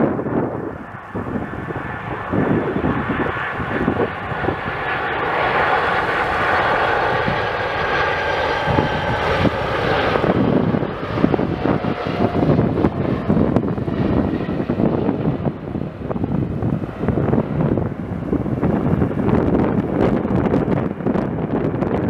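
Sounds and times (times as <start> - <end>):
jet engines roaring overhead: 0.0 - 22.0.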